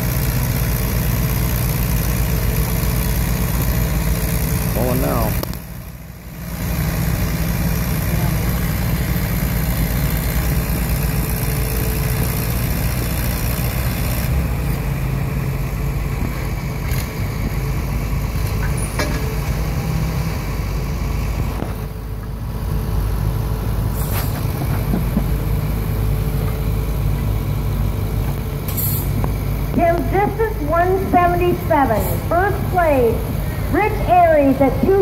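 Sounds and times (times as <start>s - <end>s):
tractor engines running: 0.0s - 35.0s.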